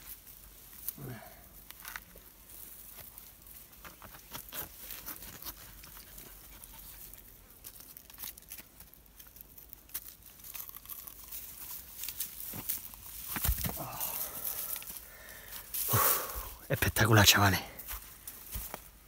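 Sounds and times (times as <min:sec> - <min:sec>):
rustling through dry grass: 0:00.0 - 0:19.0.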